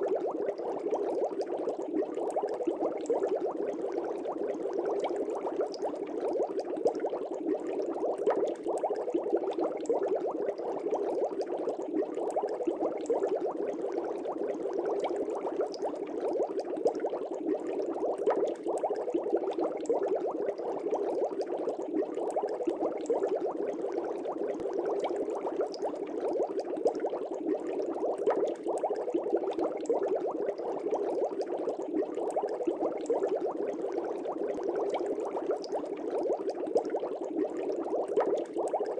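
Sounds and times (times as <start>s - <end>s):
air bubbles in aquarium water: 0.0s - 38.9s.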